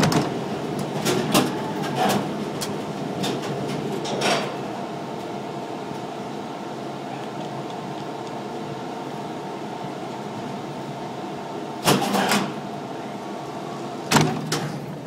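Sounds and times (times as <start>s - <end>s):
tram machinery hum: 0.0s - 15.0s.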